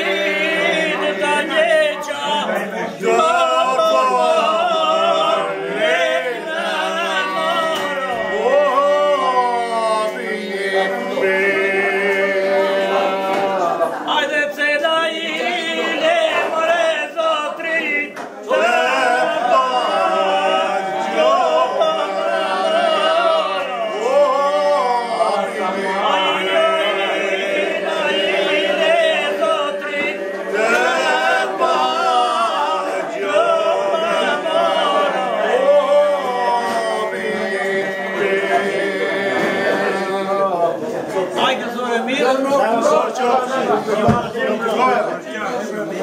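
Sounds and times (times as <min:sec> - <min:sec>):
men's group singing with drone: 0:00.0 - 0:41.0.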